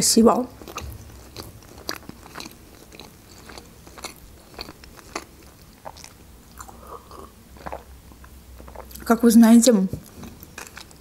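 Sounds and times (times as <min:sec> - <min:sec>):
person chewing with mouth clicks: 0:00.5 - 0:09.0, 0:10.0 - 0:11.0.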